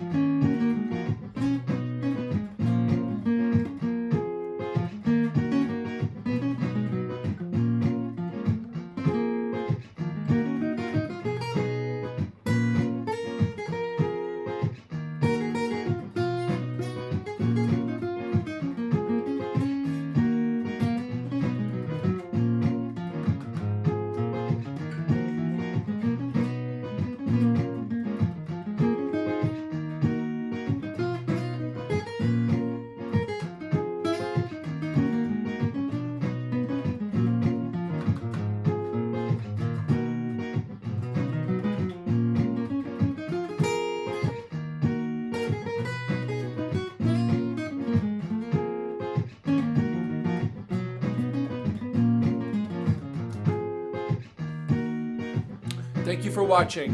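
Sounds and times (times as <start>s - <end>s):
single-note guitar lines: 0.0s - 56.9s
strummed acoustic guitar loop: 0.0s - 56.9s.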